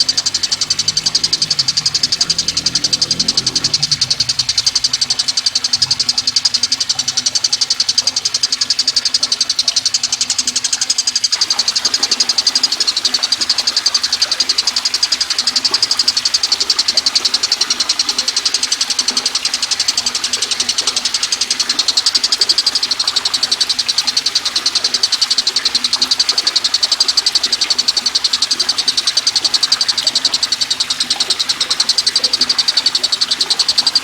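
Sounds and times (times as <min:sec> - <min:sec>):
bird rattling trill: 0:00.0 - 0:34.0.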